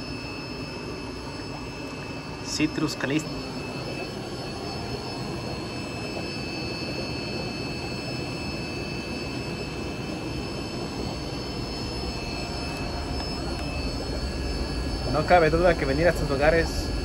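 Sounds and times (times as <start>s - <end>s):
aquarium air pumps humming: 0.0s - 17.0s
faint high whines: 0.0s - 17.0s.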